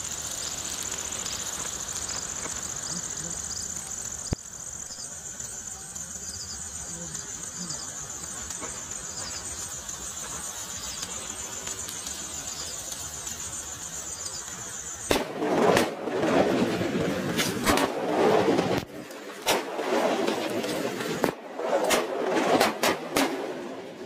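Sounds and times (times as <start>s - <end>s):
firecrackers crackling and banging: 0.0s - 24.0s.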